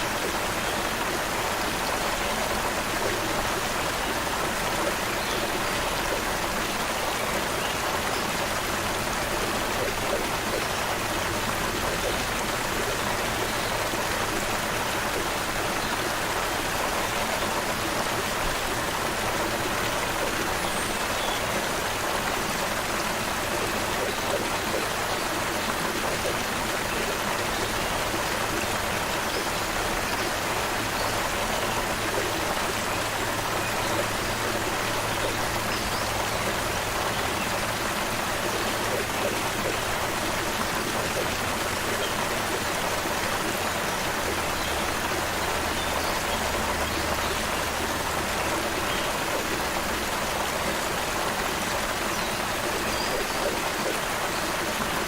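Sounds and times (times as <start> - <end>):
stream water running over rocks: 0.0 - 55.0.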